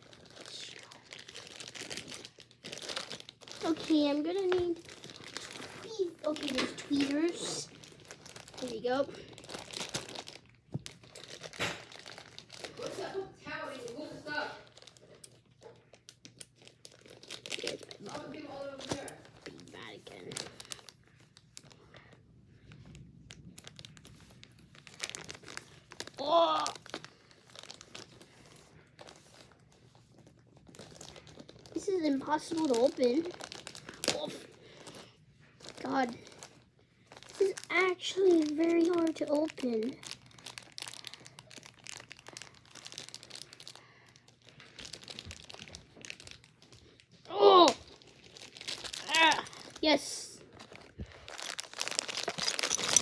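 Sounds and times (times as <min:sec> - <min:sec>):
packaging crinkling and rustling: 0:00.0 - 0:53.0.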